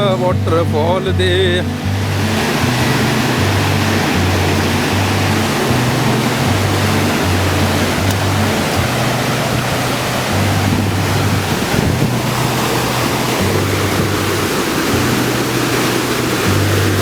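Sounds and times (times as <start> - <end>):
waterfall and stream rushing: 0.0 - 17.0
wind rumble on microphone: 1.7 - 17.0.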